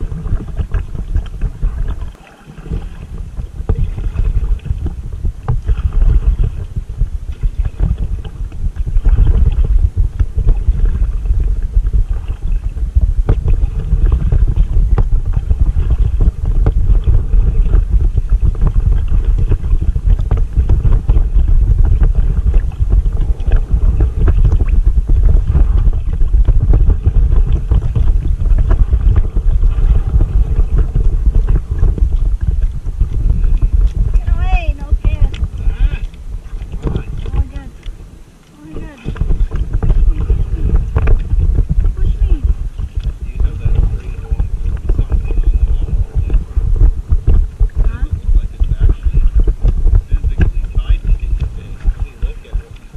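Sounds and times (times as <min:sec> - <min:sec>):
paddle splashing in water: 0:00.0 - 0:52.9
wind buffeting microphone: 0:00.0 - 0:52.9.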